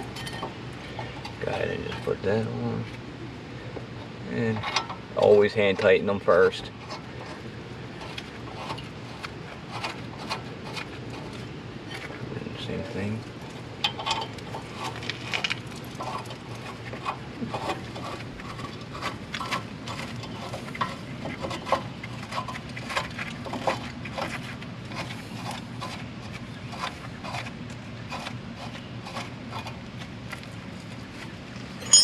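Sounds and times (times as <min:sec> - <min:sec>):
low background hum: 0:00.0 - 0:32.0.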